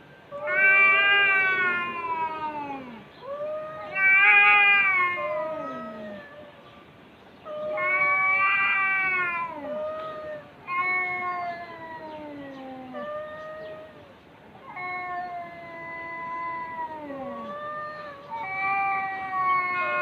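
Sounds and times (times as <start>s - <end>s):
cat meowing: 0.4s - 6.4s, 7.5s - 20.0s.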